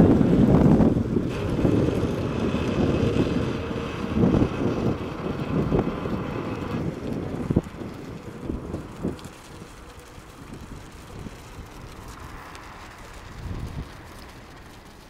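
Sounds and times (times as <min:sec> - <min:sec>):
tow winch running: 0:00.0 - 0:15.0
wind buffeting microphone: 0:00.0 - 0:15.0.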